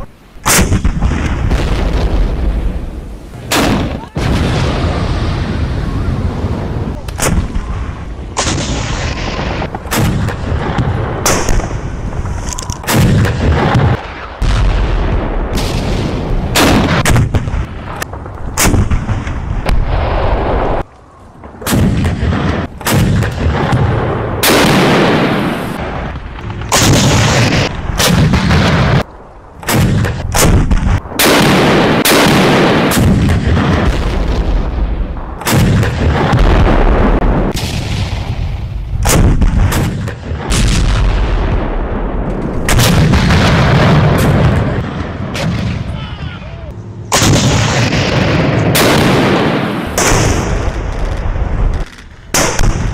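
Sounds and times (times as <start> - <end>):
artillery explosions booming: 0.0 - 52.9.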